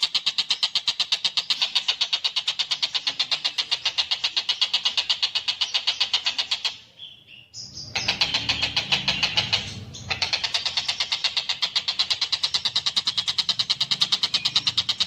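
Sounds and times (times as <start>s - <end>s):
kingfisher rattling chatter: 0.0s - 6.8s, 8.0s - 15.0s.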